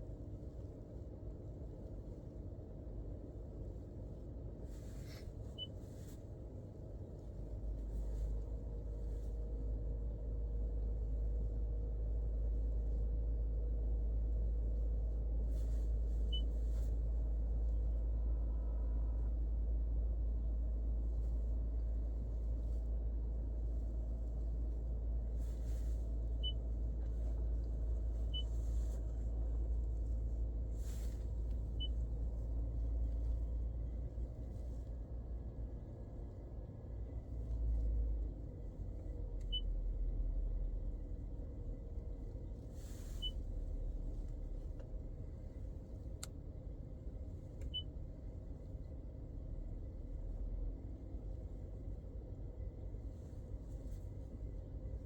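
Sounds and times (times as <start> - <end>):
car heating system humming: 0.0 - 55.0.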